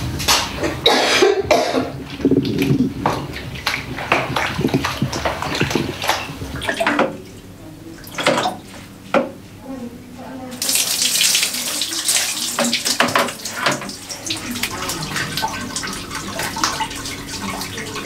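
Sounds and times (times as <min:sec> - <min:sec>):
water splashing in plastic basin: 0:00.0 - 0:08.8, 0:10.6 - 0:18.0.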